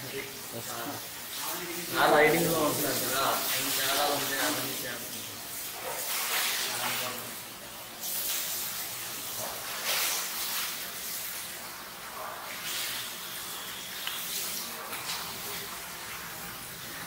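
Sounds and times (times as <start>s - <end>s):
water running and splashing: 0.0s - 17.0s.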